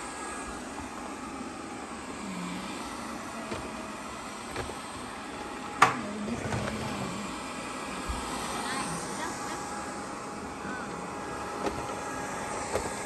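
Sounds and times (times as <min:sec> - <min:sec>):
robot vacuum humming: 0:00.0 - 0:13.0.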